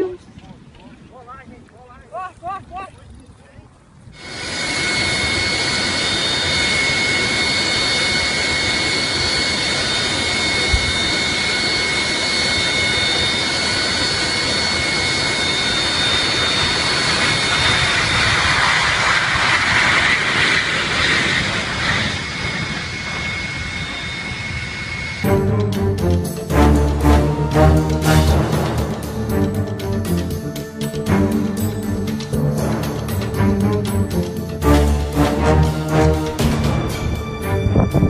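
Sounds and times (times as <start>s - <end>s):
jet engines with high turbine whine: 3.9s - 38.0s.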